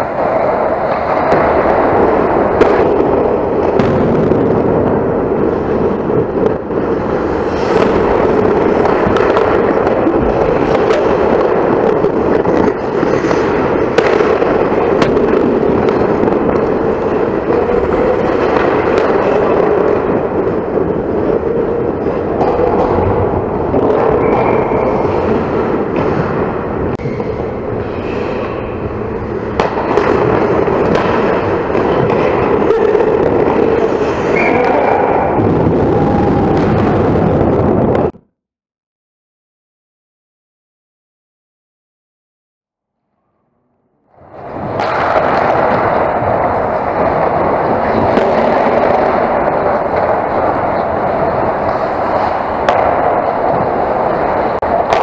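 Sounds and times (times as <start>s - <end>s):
hockey sticks and puck clacking: 0.0s - 3.8s, 4.8s - 35.4s, 44.2s - 55.0s
skates scraping on ice: 0.0s - 3.8s, 4.9s - 35.4s, 44.2s - 55.0s.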